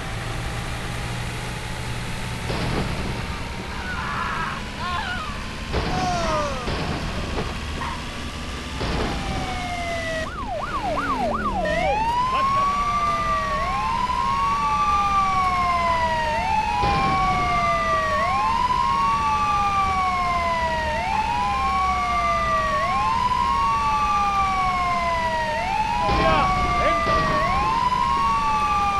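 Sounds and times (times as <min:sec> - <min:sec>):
low vehicle rumble: 0:00.0 - 0:28.9
police siren yelp and wail: 0:02.8 - 0:28.9.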